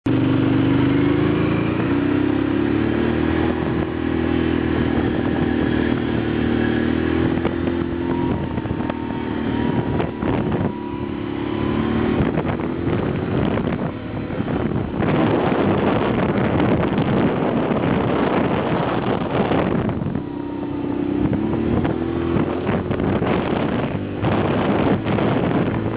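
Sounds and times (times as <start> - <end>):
motorbike engine running: 0.0 - 25.9
rough rushing noise: 0.1 - 25.9.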